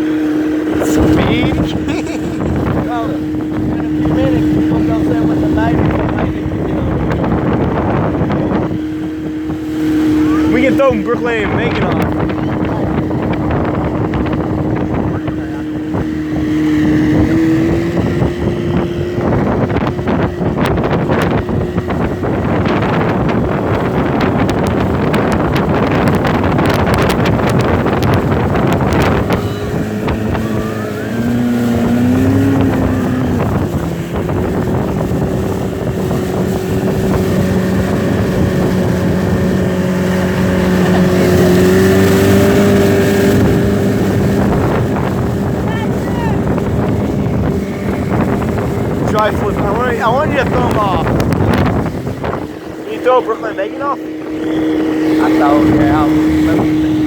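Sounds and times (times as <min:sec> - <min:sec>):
hull slapping on waves: 0:00.0 - 0:57.0
motorboat engine running: 0:00.0 - 0:57.0
rush of wind and water: 0:00.0 - 0:57.0.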